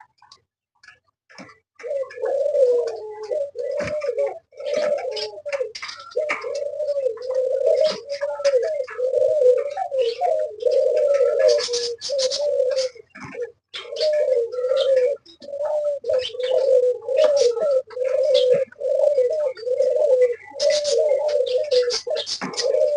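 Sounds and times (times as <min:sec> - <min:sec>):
small birds chirping: 0:00.0 - 0:22.9
doves cooing: 0:01.3 - 0:22.9.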